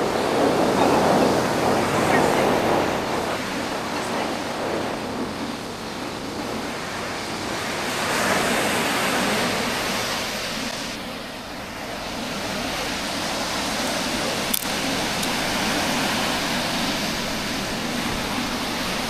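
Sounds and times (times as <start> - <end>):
surf breaking on sandy beach: 0.0 - 19.0.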